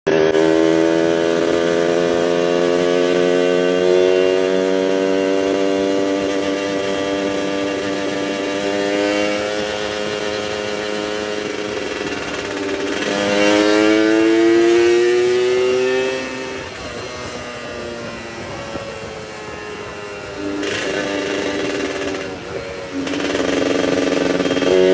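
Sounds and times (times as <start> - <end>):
two-stroke engine exhaust growl: 0.0 - 24.9.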